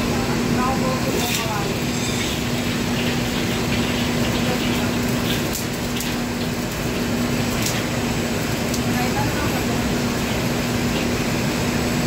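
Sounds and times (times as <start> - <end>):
wok range and exhaust hood rushing: 0.0 - 12.0.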